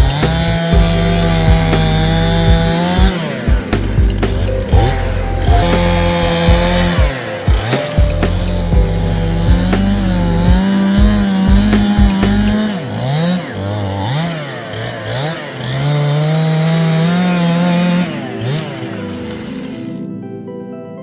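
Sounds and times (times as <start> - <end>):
chainsaw cutting wood: 0.0 - 19.9.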